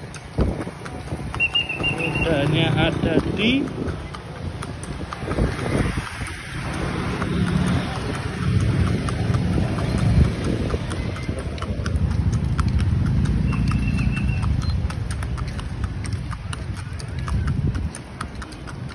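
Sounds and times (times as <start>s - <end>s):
hooves clip-clopping on asphalt: 0.0s - 18.9s.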